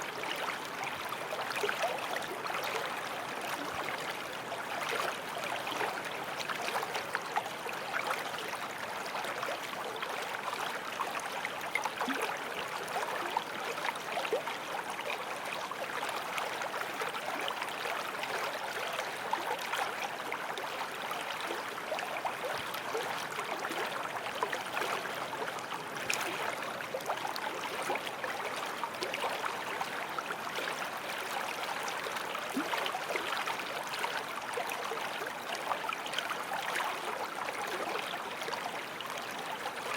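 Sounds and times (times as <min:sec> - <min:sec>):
creek babbling over stones: 0:00.0 - 0:39.9
water splashes and gurgles: 0:00.0 - 0:39.9.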